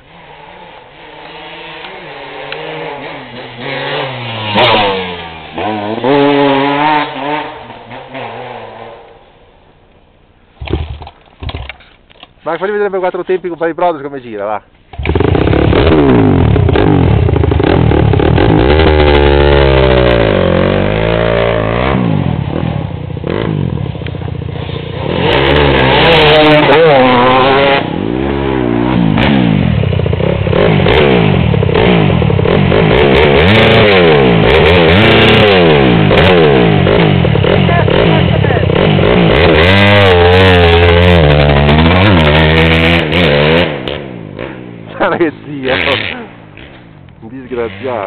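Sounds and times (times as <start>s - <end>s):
motorcycle engine revving: 0.0s - 9.5s, 10.5s - 11.8s, 14.9s - 48.0s.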